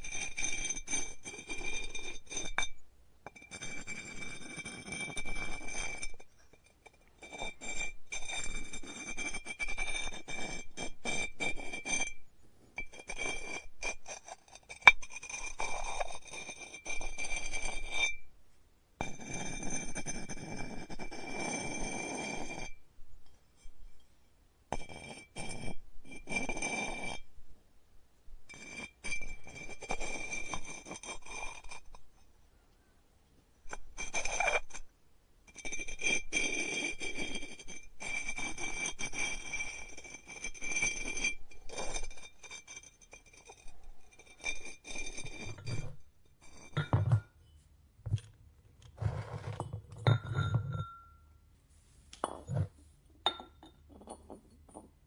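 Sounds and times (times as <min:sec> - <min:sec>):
pottery tools scraping and clinking: 0:00.0 - 0:18.3, 0:19.0 - 0:22.8, 0:28.5 - 0:32.2, 0:33.6 - 0:34.9, 0:35.5 - 0:51.4, 0:52.1 - 0:55.0.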